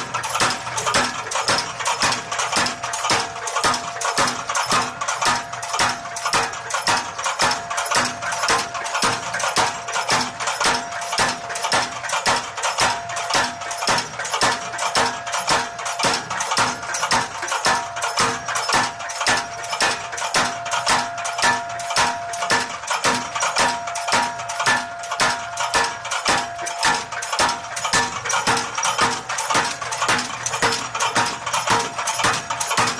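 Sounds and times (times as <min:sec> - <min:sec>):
power hammer striking metal: 0:00.0 - 0:32.9.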